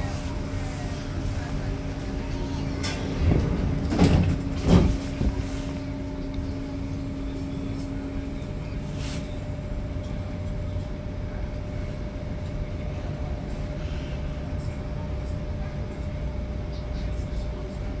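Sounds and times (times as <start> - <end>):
tram car rumbling: 0.0 - 18.0.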